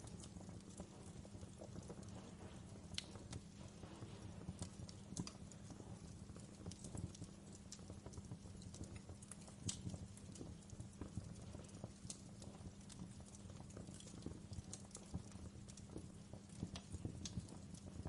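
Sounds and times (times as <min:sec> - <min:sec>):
low rumble of burning: 0:00.0 - 0:18.0
wood fire crackling: 0:00.0 - 0:18.0.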